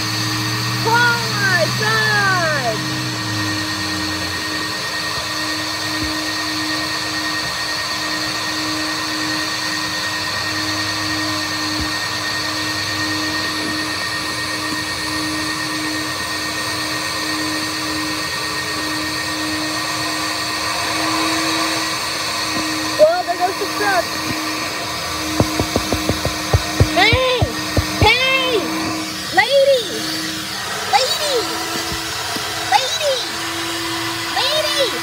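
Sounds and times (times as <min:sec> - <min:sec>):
car wash machinery running: 0:00.0 - 0:35.0.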